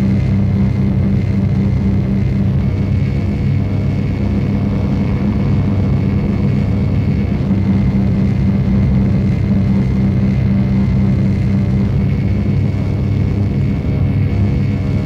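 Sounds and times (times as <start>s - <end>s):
dense low drone: 0.0s - 15.0s.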